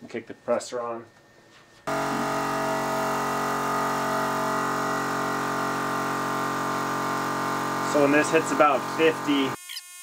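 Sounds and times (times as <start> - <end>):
air compressor running: 1.9 - 10.0.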